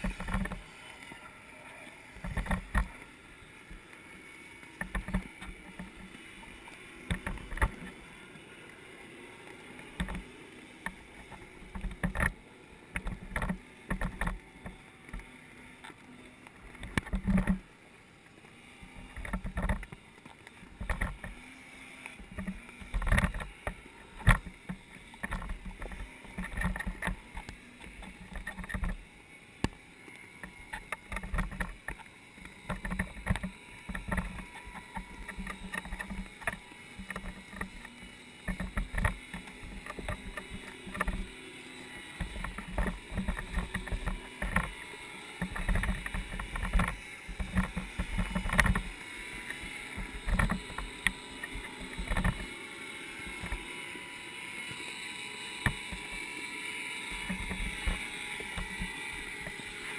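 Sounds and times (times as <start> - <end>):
faint steady hum: 0.0 - 59.9
water background: 0.0 - 59.9.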